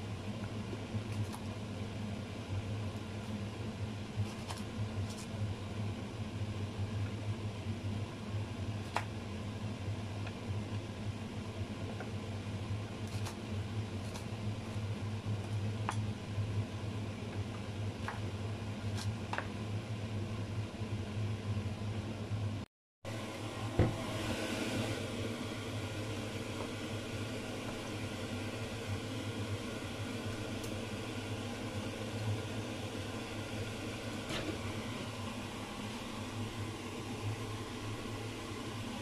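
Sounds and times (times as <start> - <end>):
fan-like hum: 0.0 - 39.0.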